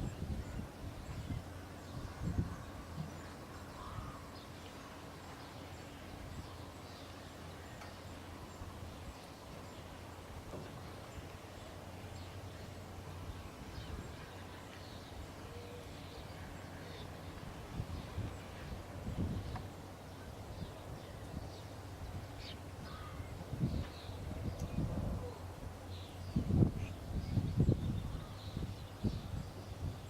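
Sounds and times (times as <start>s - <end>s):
birds chirping: 0.0s - 30.0s
faint drone of farm machinery: 0.0s - 30.0s.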